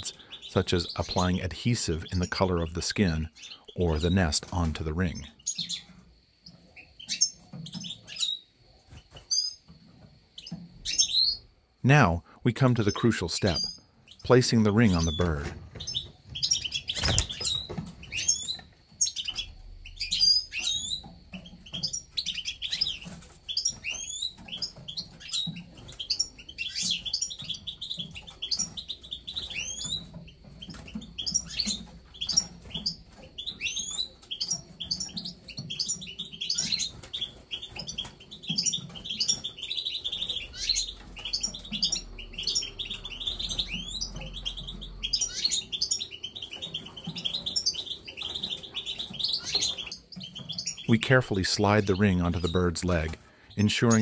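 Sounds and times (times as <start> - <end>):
small cage birds chirping: 0.0 - 54.0.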